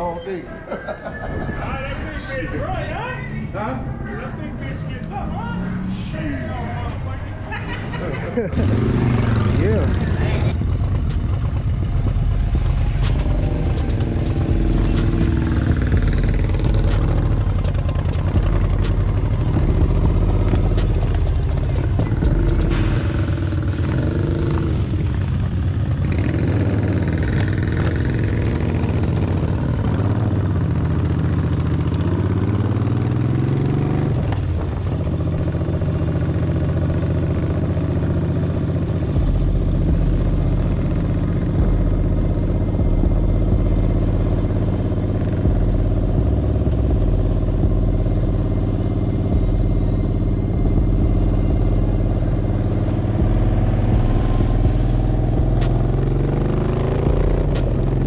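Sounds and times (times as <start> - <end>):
motorcycle engines accelerating: 0.0 - 58.0.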